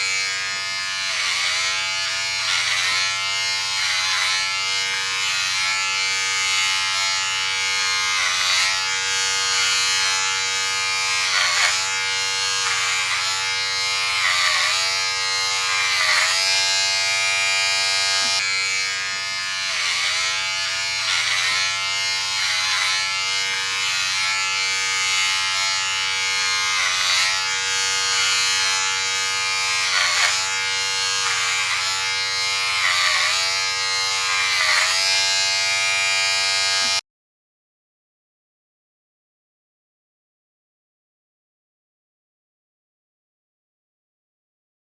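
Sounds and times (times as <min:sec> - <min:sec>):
electric hair clipper buzzing: 0:00.0 - 0:37.0.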